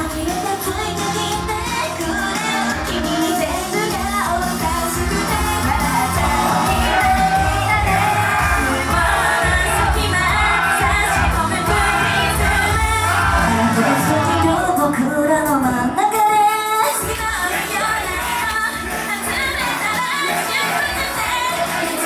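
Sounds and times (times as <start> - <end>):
female voices singing: 0.0 - 22.0
pop backing track: 0.0 - 22.0.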